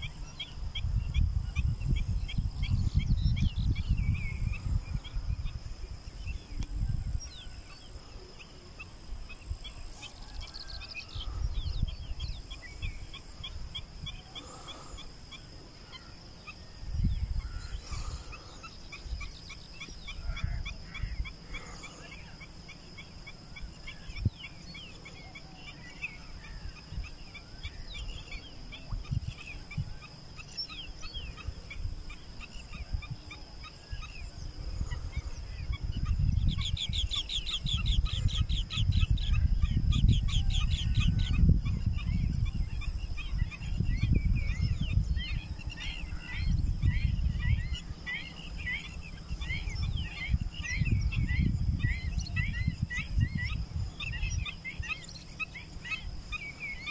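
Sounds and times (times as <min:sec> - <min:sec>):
birds chirping: 0:00.0 - 0:56.9
wind rumbling on microphone: 0:00.0 - 0:56.9.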